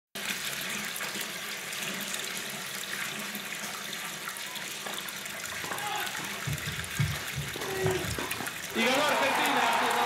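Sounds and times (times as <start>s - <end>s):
water running into bathtub: 0.2s - 10.0s.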